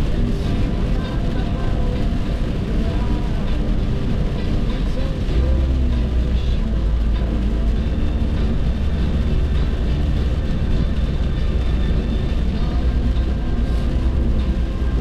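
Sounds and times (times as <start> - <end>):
tyre and engine rumble: 0.0 - 15.0.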